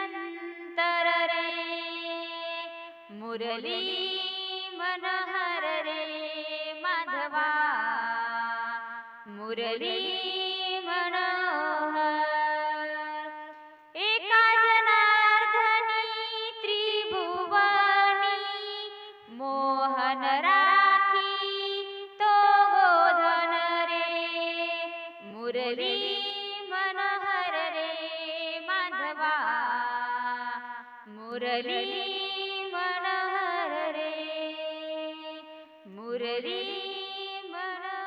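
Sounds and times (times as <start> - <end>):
woman singing: 0.0 - 38.0.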